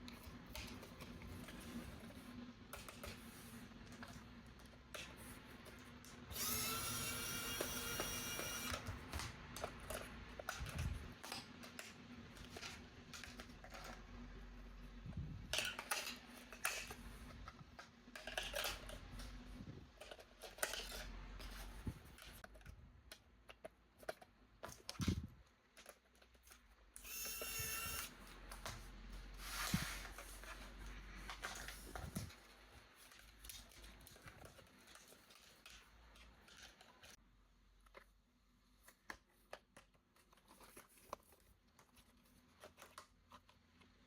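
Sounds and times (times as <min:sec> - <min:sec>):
toy packaging clicks and rustles: 0:00.0 - 0:44.0.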